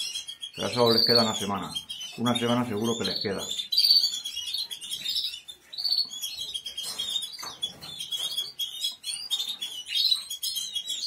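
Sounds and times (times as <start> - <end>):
songbirds chirping and twittering: 0.0 - 11.0.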